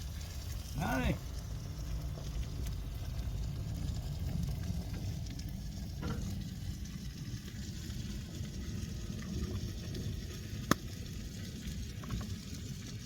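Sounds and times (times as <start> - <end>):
food frying and sizzling in a pan: 0.0 - 13.0
steady low rumble: 0.0 - 13.0.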